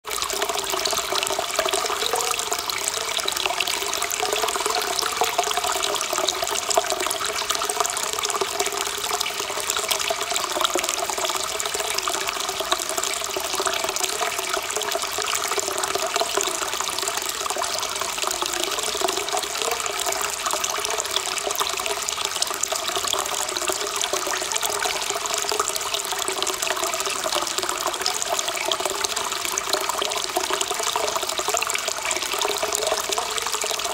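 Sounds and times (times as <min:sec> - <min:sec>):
water pouring into pool: 0:00.0 - 0:33.9.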